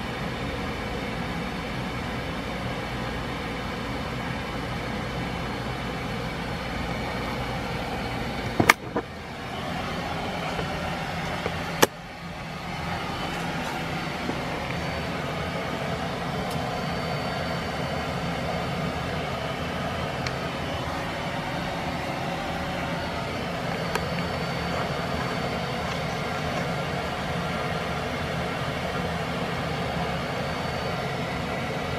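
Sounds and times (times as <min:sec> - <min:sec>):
ceiling fan humming: 0:00.0 - 0:31.9.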